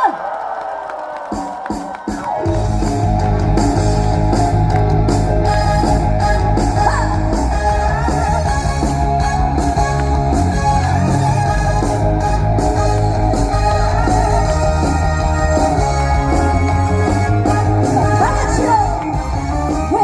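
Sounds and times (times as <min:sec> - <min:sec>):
bass and drum beat: 0:01.3 - 0:20.0
electric guitar: 0:02.2 - 0:20.0.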